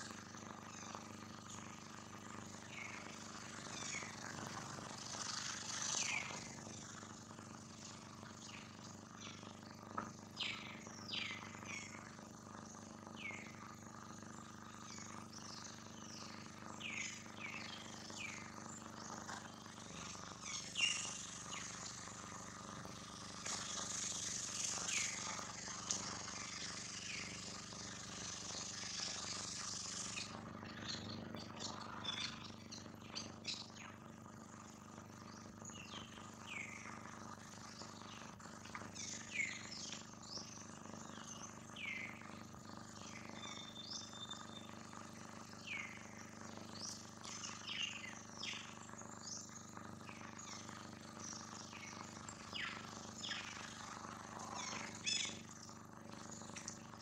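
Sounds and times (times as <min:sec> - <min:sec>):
faint steady hum: 0:00.0 - 0:57.0
birds chirping: 0:02.5 - 0:07.0, 0:07.7 - 0:57.0.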